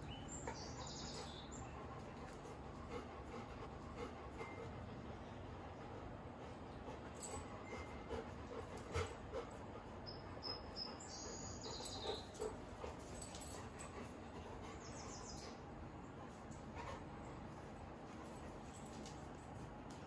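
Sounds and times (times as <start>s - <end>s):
dogs panting: 0.0s - 20.0s.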